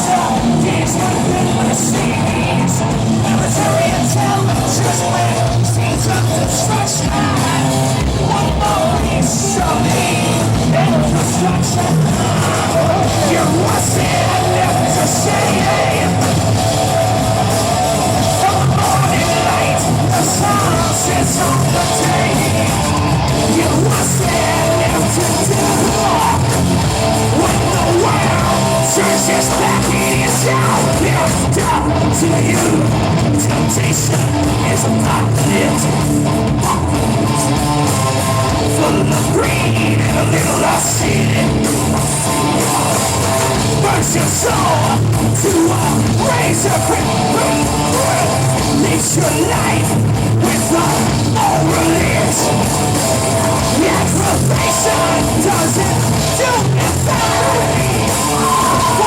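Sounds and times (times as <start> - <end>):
bass: 0.0 - 59.0
distorted guitars: 0.0 - 59.0
drums: 0.0 - 59.0
heavy metal band playing: 0.0 - 59.0
shouted vocals: 0.0 - 59.0
singer yelling and singing: 0.0 - 59.0.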